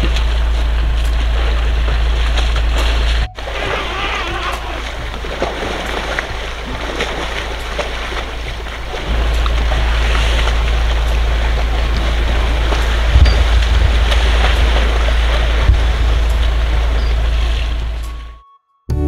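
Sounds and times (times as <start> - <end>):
muddy water splashing: 0.0 - 18.4
wind rumbling on microphone: 0.0 - 18.4.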